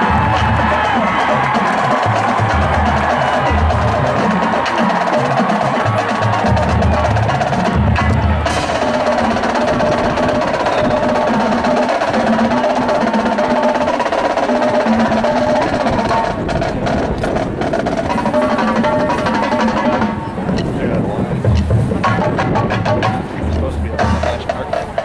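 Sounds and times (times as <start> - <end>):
marching band playing: 0.0 - 25.0.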